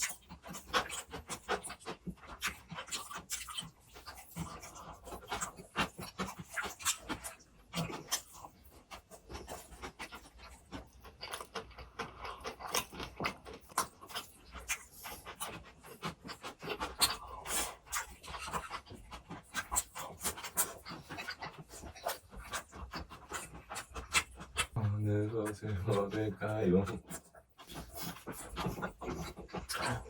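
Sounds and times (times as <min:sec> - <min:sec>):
chewing and lip smacking: 0:00.0 - 0:30.0.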